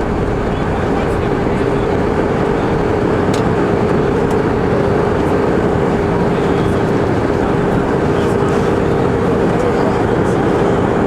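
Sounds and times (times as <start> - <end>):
aircraft cabin engine noise: 0.0 - 11.0.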